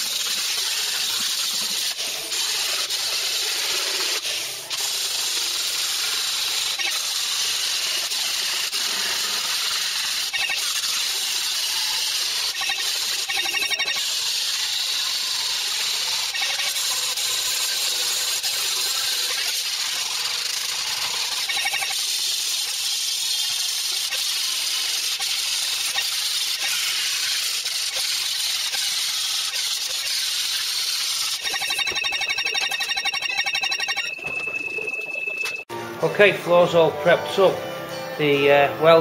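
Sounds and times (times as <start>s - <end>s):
angle grinder grinding steel: 0.0s - 35.7s.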